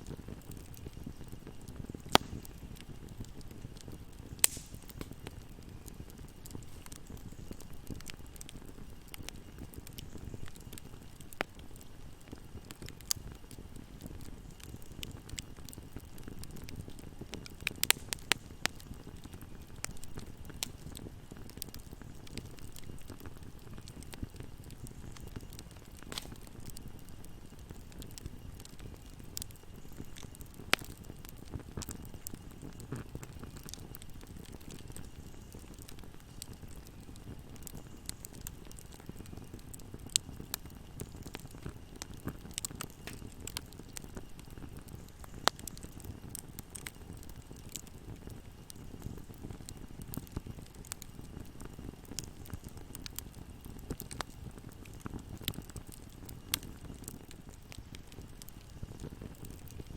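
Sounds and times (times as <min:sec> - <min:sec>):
fire crackling and popping: 0:00.0 - 0:59.9
fire flame rumble: 0:00.0 - 0:59.9.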